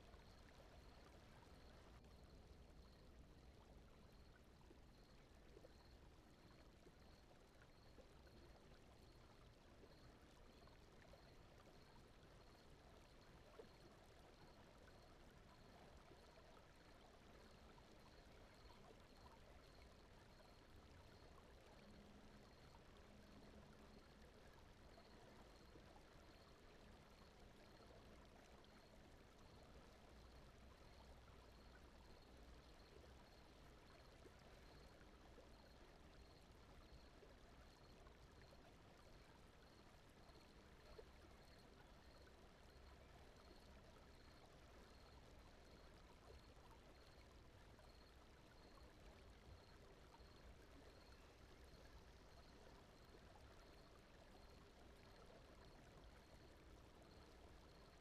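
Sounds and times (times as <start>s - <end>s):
faint brown noise: 0.0s - 58.0s.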